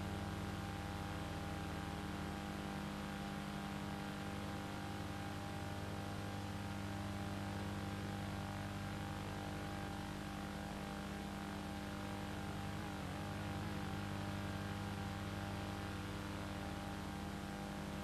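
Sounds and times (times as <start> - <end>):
electrical hum with hiss: 0.0 - 18.0.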